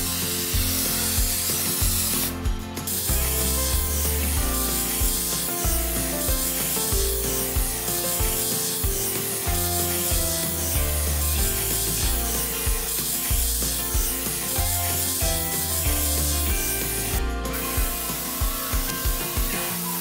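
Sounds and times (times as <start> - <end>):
background music with bass: 0.0 - 20.0.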